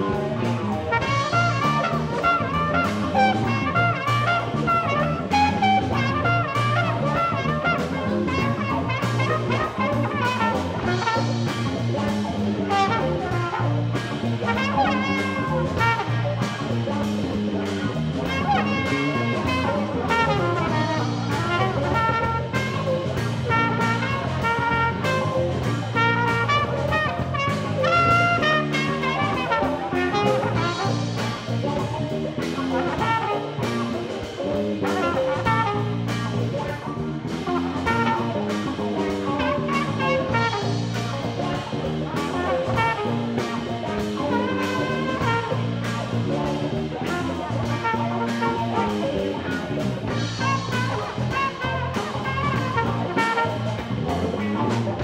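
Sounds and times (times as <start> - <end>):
drum kit steady beat: 0.0 - 55.0
electric bass: 0.0 - 55.0
electric guitars: 0.0 - 55.0
flugelhorn melody: 0.0 - 55.0.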